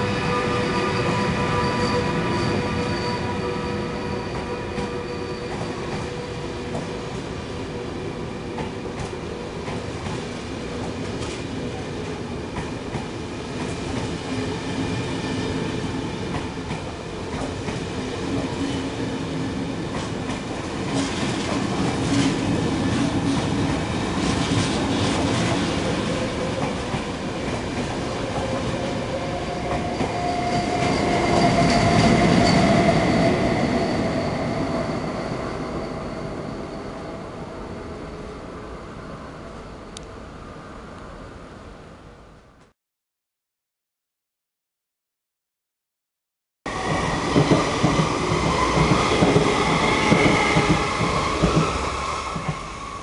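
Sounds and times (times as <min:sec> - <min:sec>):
passenger train passing: 0:00.0 - 0:42.4, 0:46.7 - 0:53.0.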